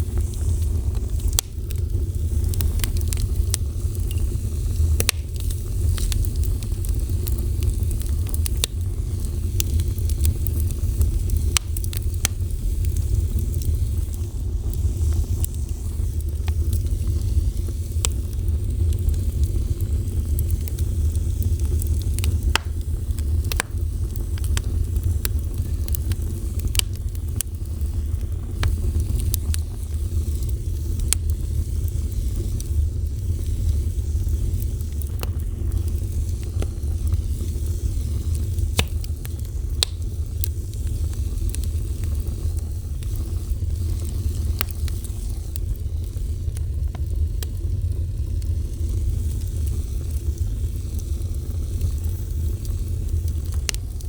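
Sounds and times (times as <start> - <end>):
fire crackling and popping: 0.0 - 54.0
soft fire hiss: 0.0 - 54.0
wood fire rumbling: 0.0 - 54.0.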